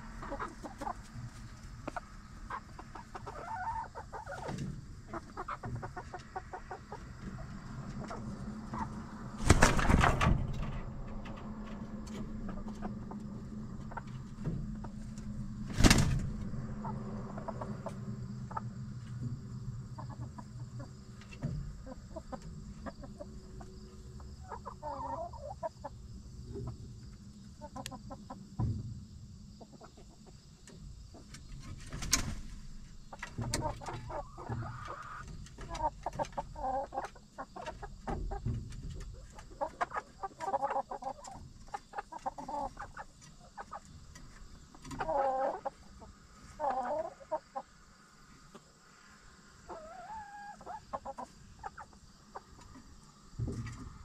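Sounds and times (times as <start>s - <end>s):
hens clucking: 0.0s - 28.7s, 29.4s - 54.0s.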